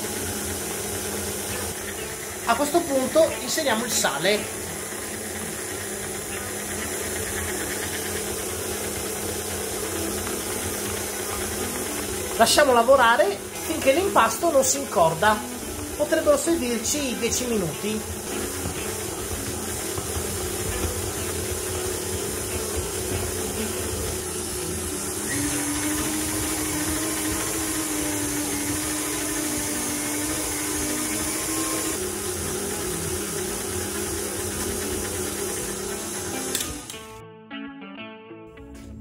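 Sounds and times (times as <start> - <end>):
stand mixer kneading dough: 0.0 - 37.0.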